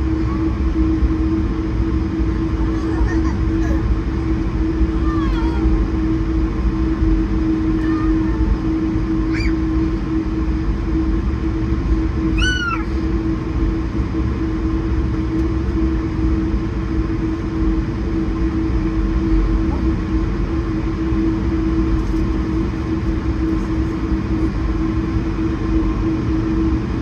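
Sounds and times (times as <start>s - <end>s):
airplane cabin hum: 0.0s - 27.0s.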